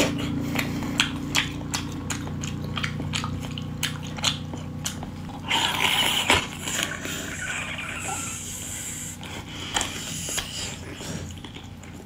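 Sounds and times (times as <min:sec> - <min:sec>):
chewing with mouth clicks: 0:00.0 - 0:12.0.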